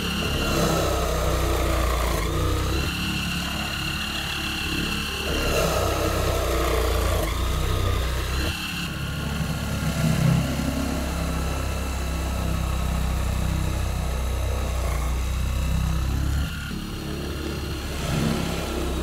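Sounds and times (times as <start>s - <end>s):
electric motor humming and whining: 0.0s - 19.0s.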